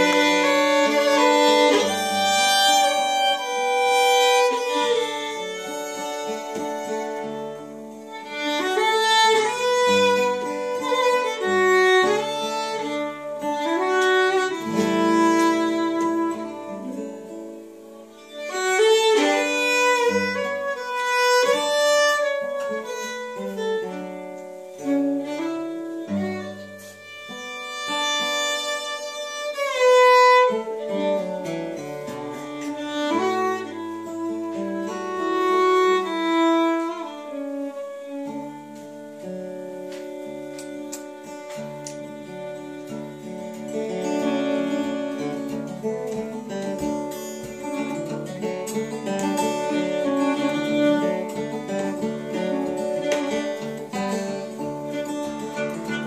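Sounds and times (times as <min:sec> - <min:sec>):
bowed fiddle melody: 0:00.0 - 0:56.0
guitar accompaniment: 0:00.0 - 0:56.0.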